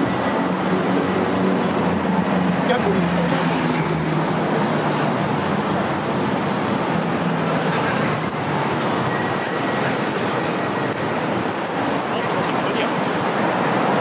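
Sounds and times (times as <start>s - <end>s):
road vehicles passing: 0.0s - 14.0s.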